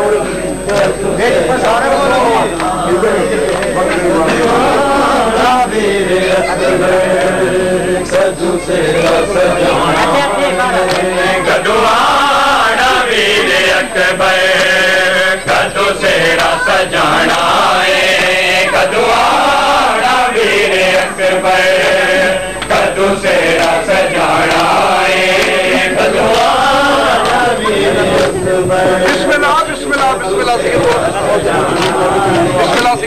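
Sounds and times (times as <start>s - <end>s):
voices chanting a lament: 0.0s - 33.0s.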